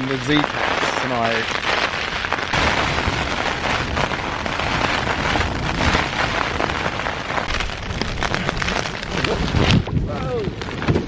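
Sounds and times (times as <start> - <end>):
heavy rain on tent fabric: 0.0 - 11.0.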